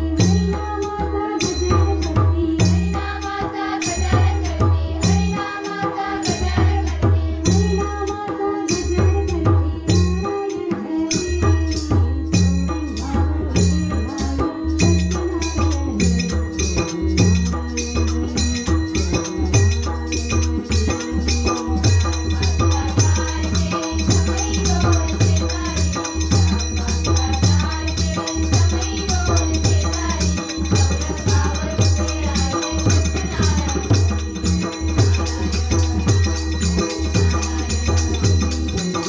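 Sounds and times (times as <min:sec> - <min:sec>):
jingling hand percussion: 0:00.0 - 0:39.0
women singing devotional song: 0:00.0 - 0:39.0.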